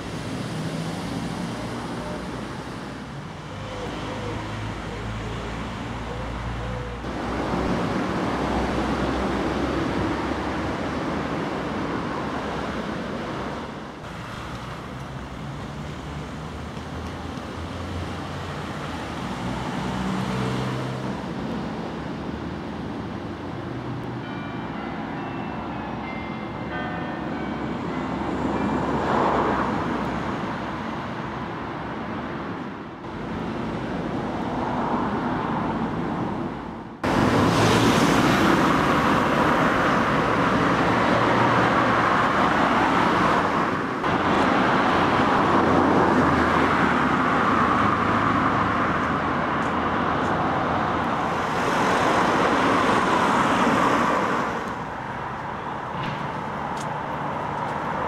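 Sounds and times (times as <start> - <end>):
passing cars: 0.0 - 58.0.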